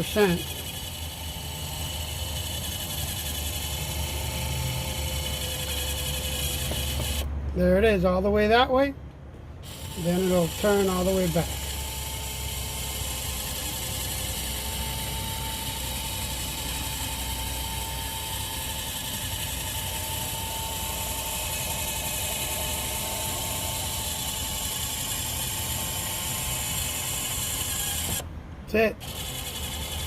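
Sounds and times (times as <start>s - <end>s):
spotlight motor whirring: 0.0s - 7.3s, 9.6s - 28.3s, 29.0s - 30.0s.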